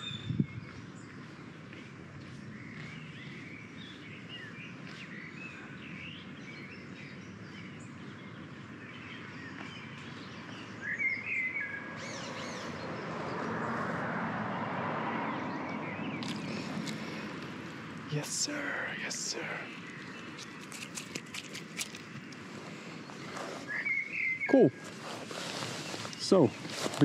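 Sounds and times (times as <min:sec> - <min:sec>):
small birds chirping: 0:00.0 - 0:14.1, 0:15.2 - 0:27.0.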